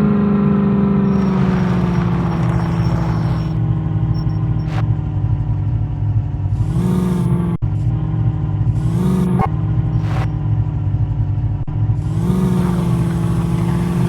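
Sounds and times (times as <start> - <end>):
engine running and revving: 0.0 - 14.0.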